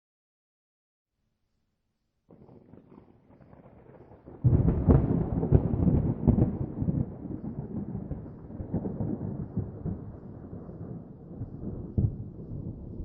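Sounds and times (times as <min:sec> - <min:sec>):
thunderclap with rolling rumble: 0:02.3 - 0:13.0.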